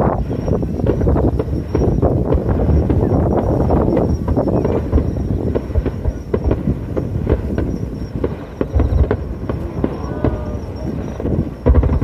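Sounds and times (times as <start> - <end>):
firework bangs and crackles: 0.0 - 12.0
low rumbling boom: 0.0 - 12.0.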